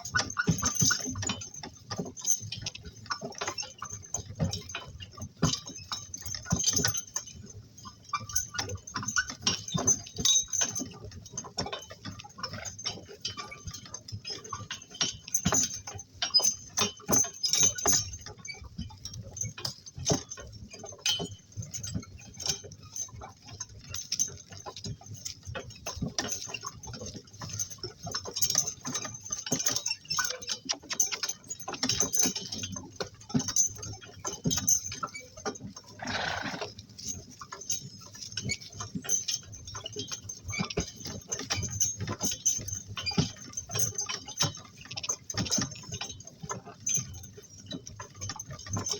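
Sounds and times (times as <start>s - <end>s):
donkey cart clinking and knocking: 0.0s - 48.9s.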